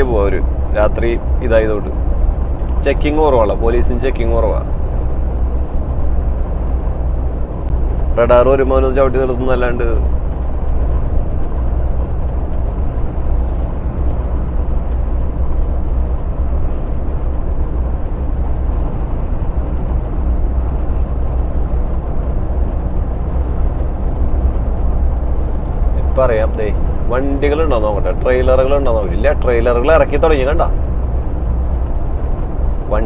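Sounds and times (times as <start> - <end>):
lorry engine drone: 0.0 - 33.0
road and tyre noise: 0.0 - 33.0.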